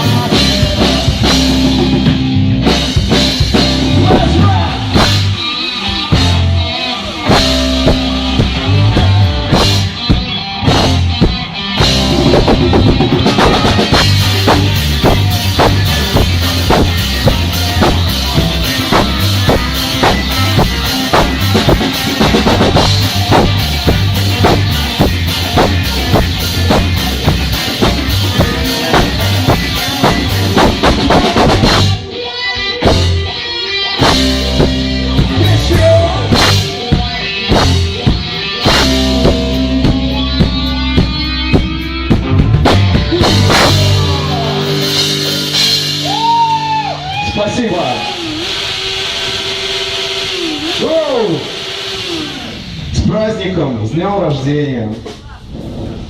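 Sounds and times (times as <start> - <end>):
busy drum kit: 0.0 - 56.0
loud rock music: 0.0 - 56.0.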